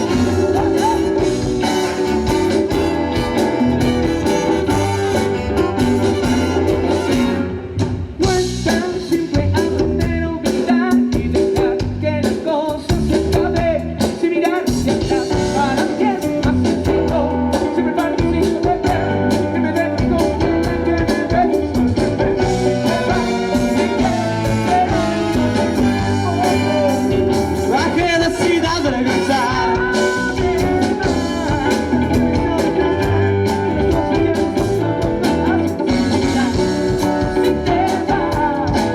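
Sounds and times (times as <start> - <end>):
person singing: 0.0 - 7.4, 8.2 - 38.9
live rock band playing: 0.0 - 38.9.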